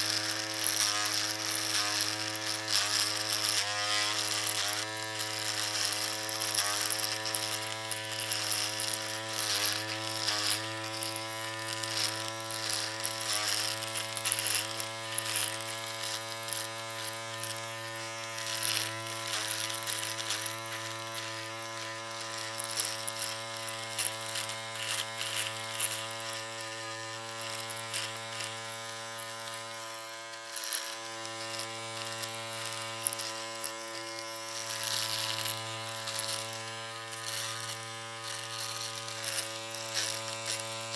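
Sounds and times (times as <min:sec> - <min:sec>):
electric shaver buzzing: 0:00.0 - 0:40.9.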